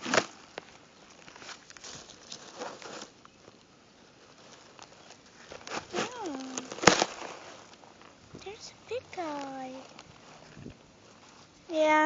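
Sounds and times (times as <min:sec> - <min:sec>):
soft rustling and crinkling: 0:00.0 - 0:12.0.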